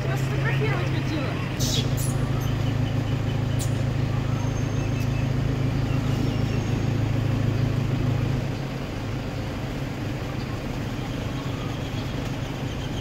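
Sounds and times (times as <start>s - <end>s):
street traffic: 0.0s - 13.0s
vehicle engine humming: 0.0s - 13.0s.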